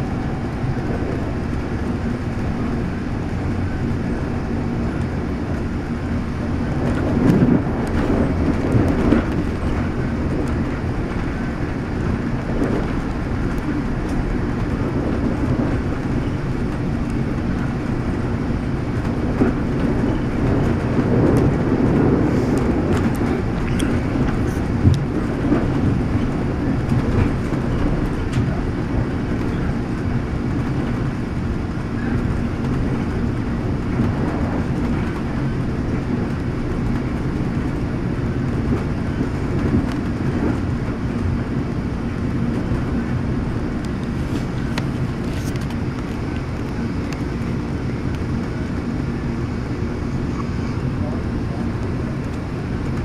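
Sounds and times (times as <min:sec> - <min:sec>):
train rumbling on track: 0:00.0 - 0:53.0.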